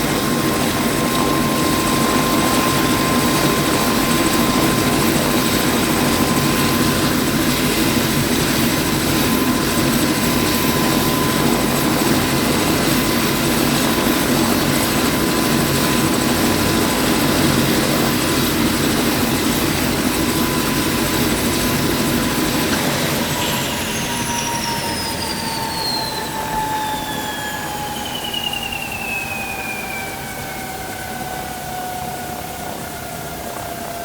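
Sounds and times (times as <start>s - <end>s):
helicopter turbine whine: 0.0s - 34.0s.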